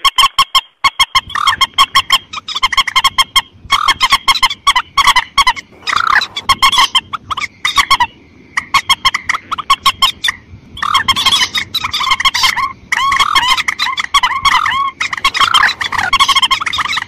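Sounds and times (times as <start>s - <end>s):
waterbirds clicking calls: 0.0s - 17.0s
waterbirds squawking: 0.0s - 17.0s.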